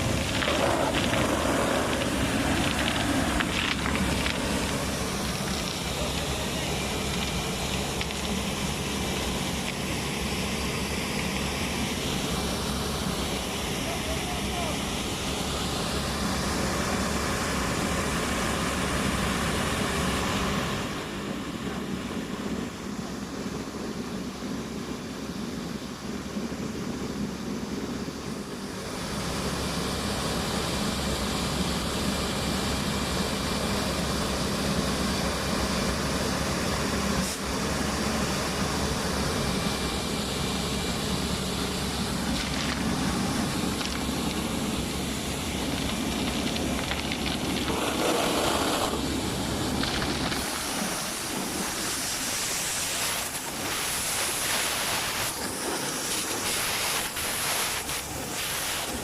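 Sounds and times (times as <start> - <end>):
vacuum excavator hiss and hum: 0.0 - 59.0.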